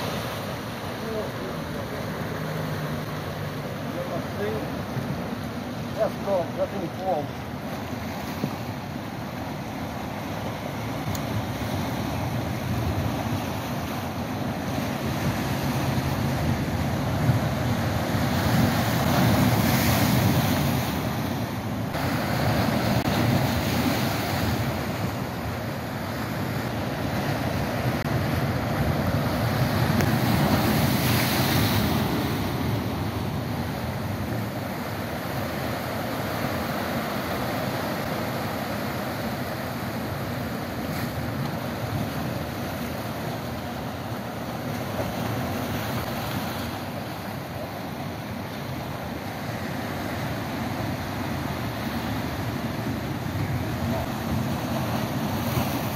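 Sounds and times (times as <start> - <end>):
waves breaking on rocks: 0.0 - 55.9.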